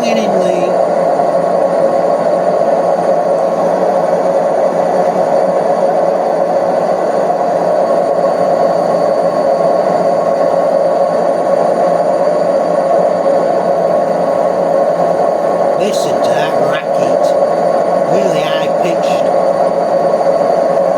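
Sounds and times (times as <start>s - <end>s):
washing machine spinning: 0.0s - 20.9s.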